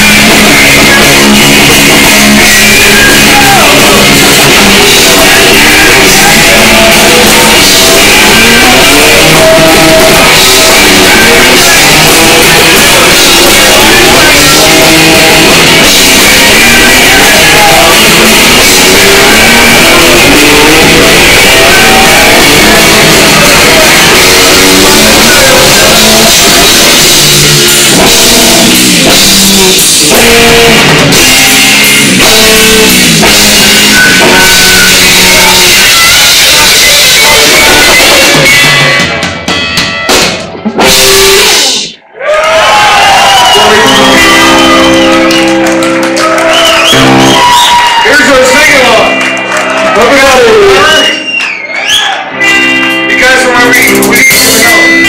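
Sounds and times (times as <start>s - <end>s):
person singing: 0.0s - 39.2s, 40.7s - 49.1s, 52.2s - 55.0s
drum kit: 0.0s - 42.0s, 42.7s - 51.6s
electric guitar: 0.0s - 55.0s.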